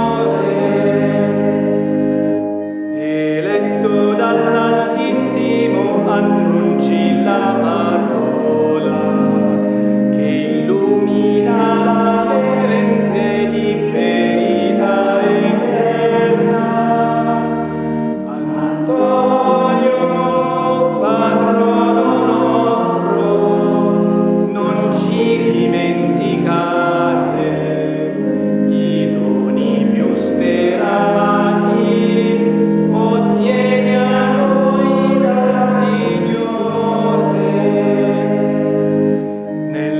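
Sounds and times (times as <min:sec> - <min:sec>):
choir singing a hymn: 0:00.0 - 0:39.9
organ accompaniment: 0:00.0 - 0:39.9.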